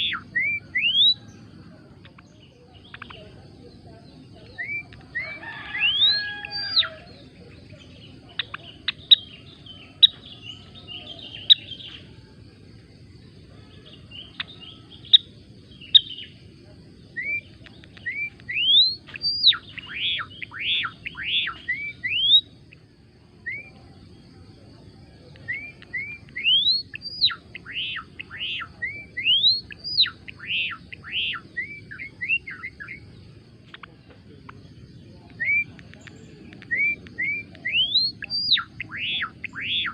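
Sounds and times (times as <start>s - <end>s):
bird chirping and chattering: 0.0s - 24.2s, 24.8s - 39.9s.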